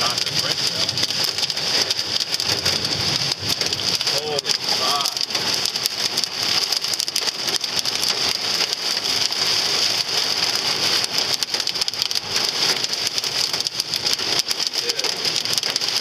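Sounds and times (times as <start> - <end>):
heavy rain on car roof: 0.0 - 16.0.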